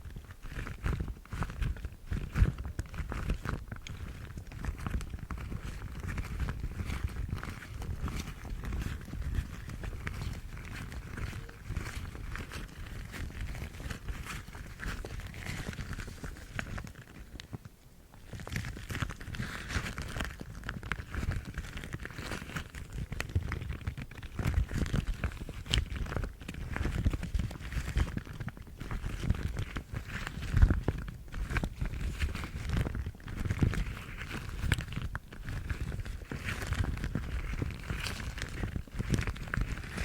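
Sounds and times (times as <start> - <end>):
rubber gloves rustling: 0.0 - 40.0.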